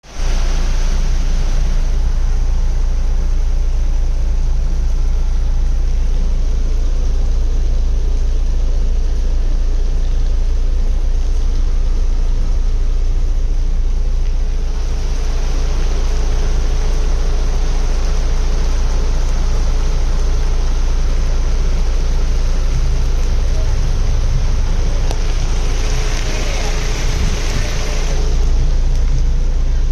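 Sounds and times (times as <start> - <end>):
deep low rumble: 0.0 - 29.9
heavy rain pouring: 0.0 - 29.9.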